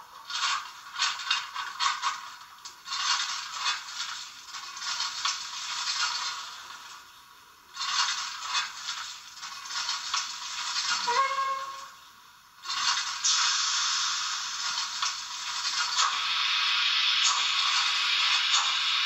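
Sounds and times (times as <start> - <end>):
hissing steam chuffs from speaker: 2.8 - 19.0.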